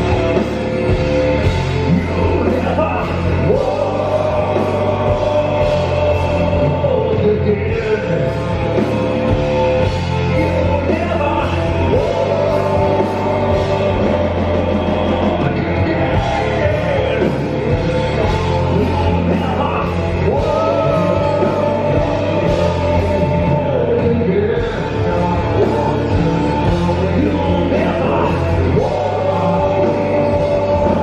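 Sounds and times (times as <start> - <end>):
metal band playing live: 0.0 - 31.0.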